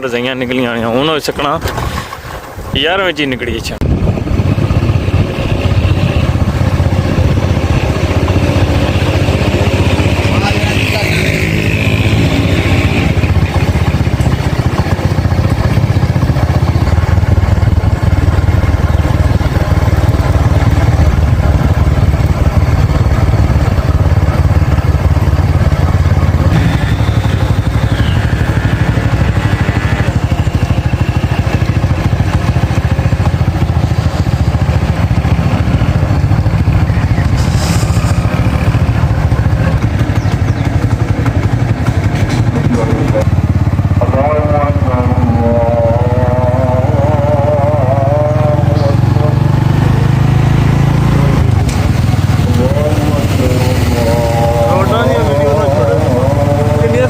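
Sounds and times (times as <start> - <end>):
small engine running: 4.5 - 57.0.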